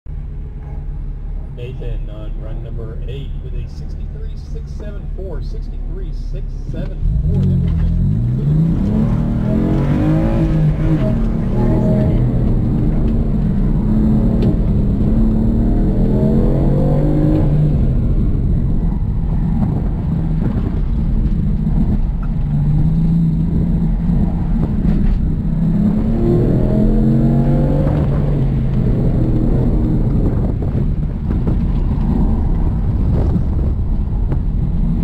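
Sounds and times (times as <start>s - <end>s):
low rumble: 0.1s - 35.0s
car engine revving: 1.3s - 35.0s.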